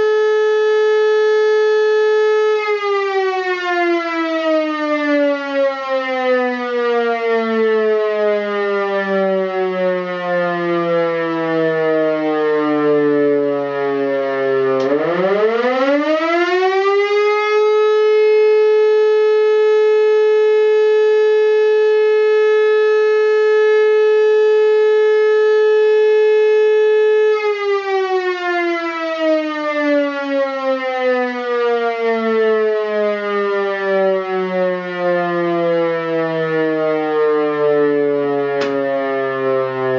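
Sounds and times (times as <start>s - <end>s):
electric motor siren wailing: 0.0s - 39.9s.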